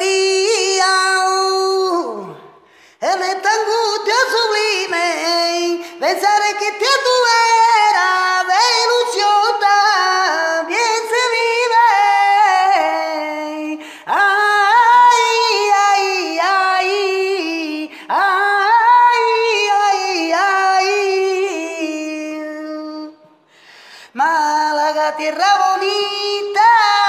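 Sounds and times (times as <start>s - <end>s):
woman singing without words: 0.0s - 23.4s, 24.0s - 27.0s.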